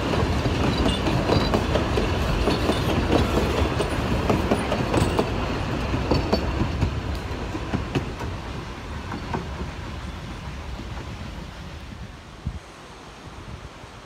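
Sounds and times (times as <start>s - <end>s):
train wheels clacking over rail joints: 0.0s - 11.4s.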